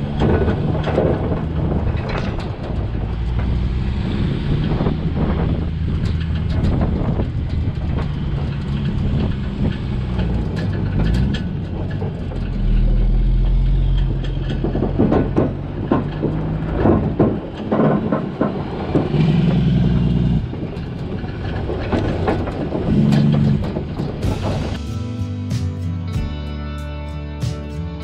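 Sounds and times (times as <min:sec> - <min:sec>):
trailer chains clanking and rattling: 0:00.0 - 0:25.8
diesel truck engine: 0:00.0 - 0:28.0.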